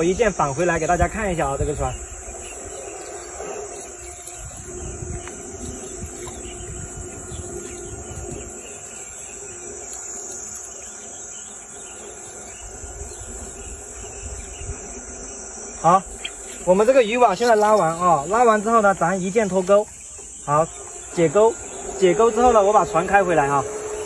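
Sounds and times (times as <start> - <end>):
insects chorus: 0.0 - 24.0.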